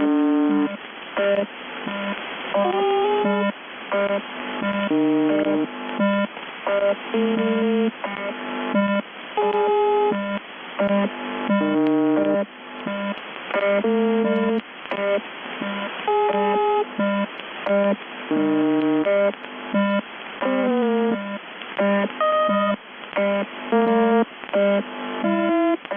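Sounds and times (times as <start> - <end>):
radio static: 0.0 - 10.1, 10.8 - 17.0, 17.6 - 19.4, 20.0 - 25.9.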